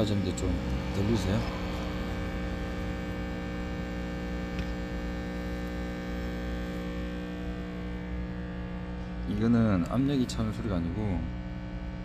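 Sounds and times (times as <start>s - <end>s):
sample pump humming: 0.0s - 12.0s.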